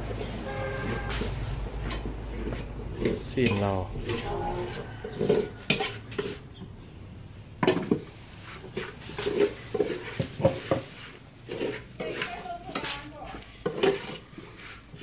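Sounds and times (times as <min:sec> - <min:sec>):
utensil scraping a metal pot: 0:00.0 - 0:06.9, 0:07.6 - 0:15.0.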